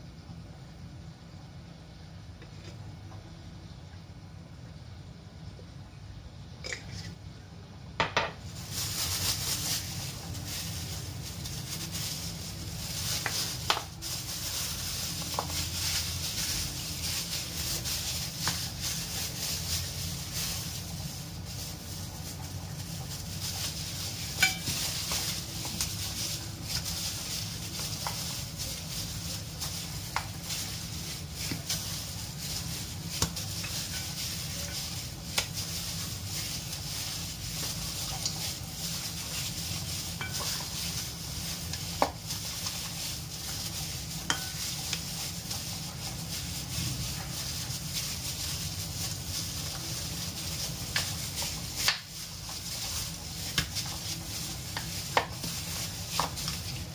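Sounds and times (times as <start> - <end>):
steady hiss: 7.1 - 56.9.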